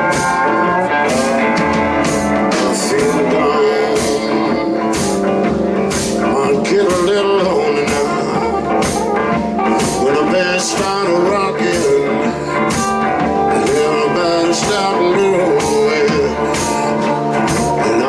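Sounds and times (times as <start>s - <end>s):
drums with steady beat: 0.0s - 18.0s
electric guitar: 0.0s - 18.0s.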